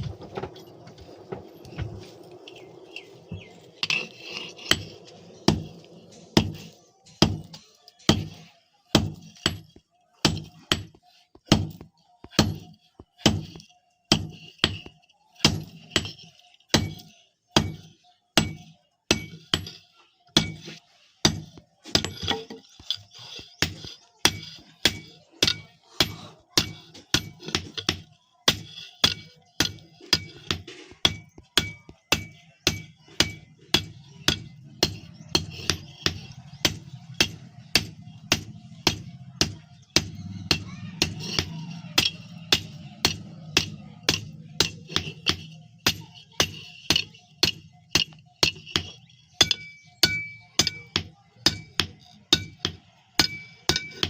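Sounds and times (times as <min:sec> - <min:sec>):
hammer striking iron: 0:00.2 - 0:54.0.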